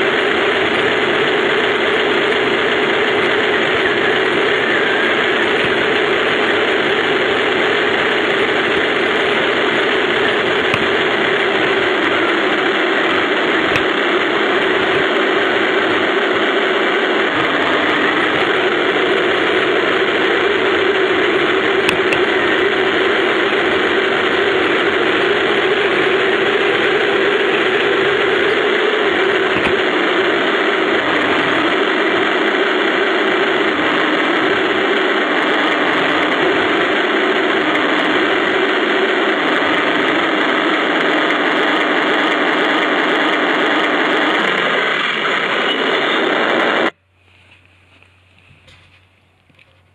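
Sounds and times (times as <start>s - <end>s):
toy tank motor hum: 0.0s - 45.6s.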